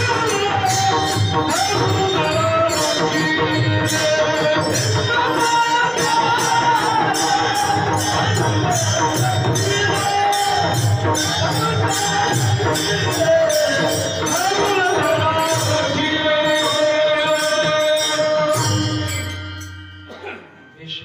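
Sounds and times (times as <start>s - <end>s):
men singing in chorus: 0.0s - 19.4s
hand cymbals struck: 0.0s - 20.5s.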